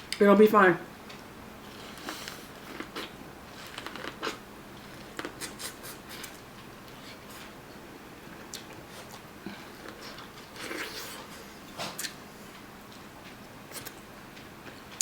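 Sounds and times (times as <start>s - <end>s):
food being chewed: 1.1s - 7.6s, 8.3s - 15.0s.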